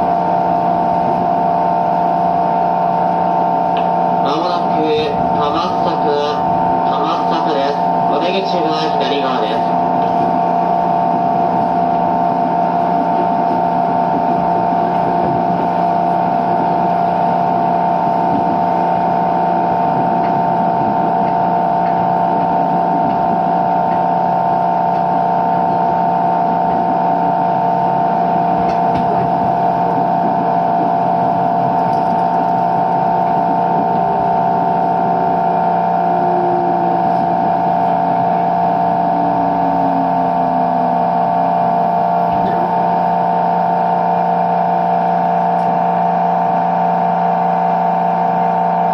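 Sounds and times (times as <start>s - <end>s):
electric train motor whine: 0.0s - 48.9s
train rumbling running noise: 0.0s - 48.9s.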